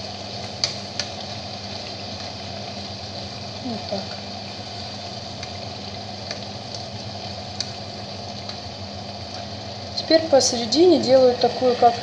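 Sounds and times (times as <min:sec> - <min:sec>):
rice simmering with bubbling hiss: 0:00.0 - 0:12.0.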